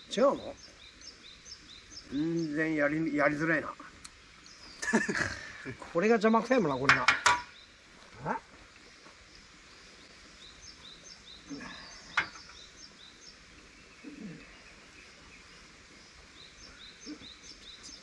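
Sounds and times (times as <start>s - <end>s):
small bird chirping: 0.0s - 5.8s, 6.6s - 18.0s
low ambient hiss: 0.0s - 18.0s.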